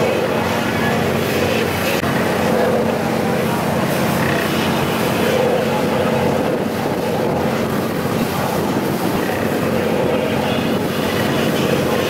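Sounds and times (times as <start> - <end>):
boat engine drone: 0.0 - 12.0
water washing past hull: 0.0 - 12.0.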